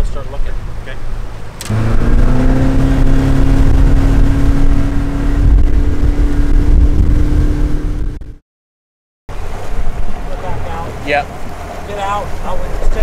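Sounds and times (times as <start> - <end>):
boat engine droning: 0.6 - 8.3, 9.3 - 13.0.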